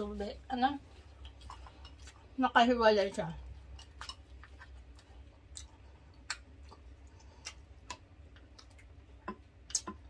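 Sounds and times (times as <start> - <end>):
low steady hum: 0.0 - 10.0
chewing: 0.8 - 2.4, 3.1 - 10.0.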